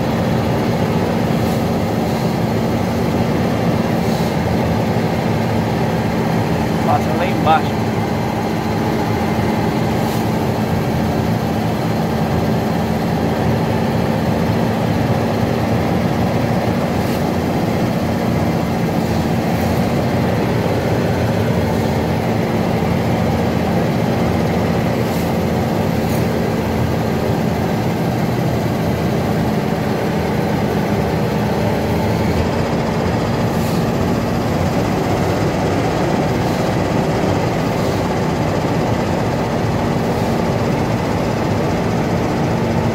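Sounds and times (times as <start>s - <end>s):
diesel truck engine: 0.0s - 42.9s
road noise: 0.0s - 42.9s.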